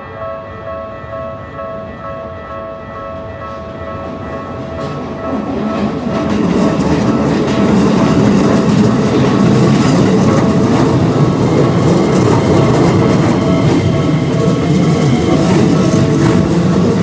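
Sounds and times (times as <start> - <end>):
train wheels rumbling on rail: 3.1 - 17.0.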